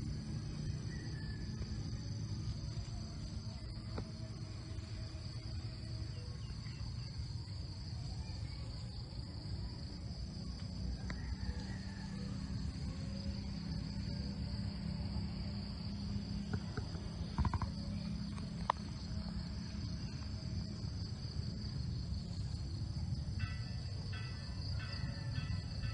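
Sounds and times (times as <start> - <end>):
insects droning: 0.0 - 25.9.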